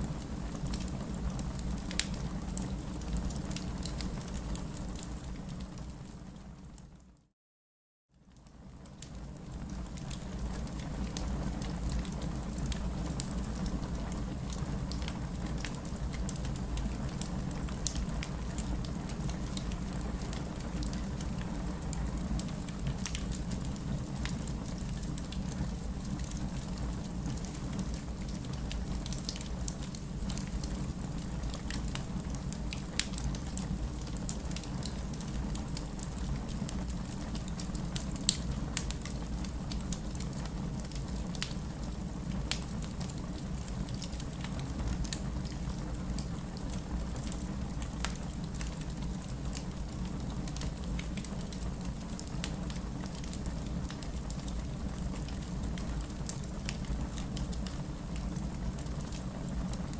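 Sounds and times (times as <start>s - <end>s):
burning logs crackling and popping: 0.2s - 6.2s, 8.4s - 59.9s
fire flames rumbling: 9.1s - 59.9s.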